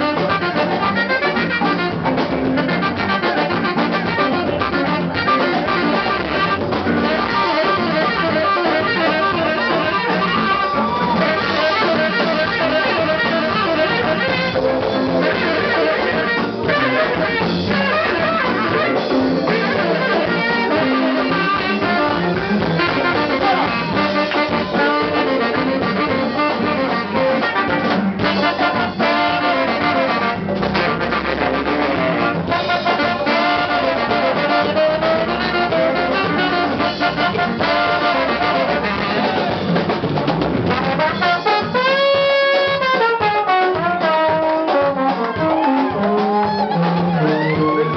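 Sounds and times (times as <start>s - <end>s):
brass horn lines: 0.0s - 39.6s, 40.7s - 47.9s
live band playing: 0.0s - 47.9s.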